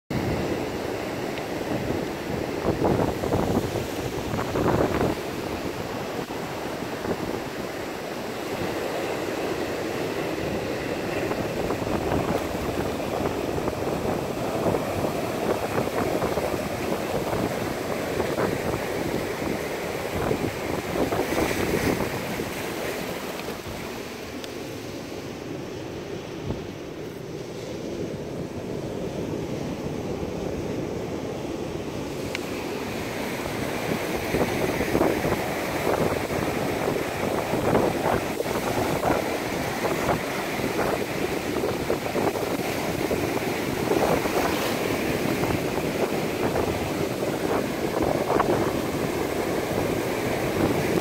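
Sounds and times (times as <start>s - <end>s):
surf washing over rocks: 0.1s - 51.0s.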